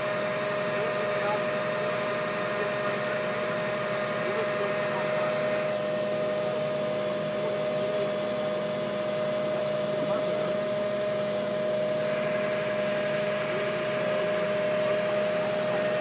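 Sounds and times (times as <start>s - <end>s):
crane mechanical hum: 0.0s - 16.0s
steady high whine: 0.0s - 16.0s.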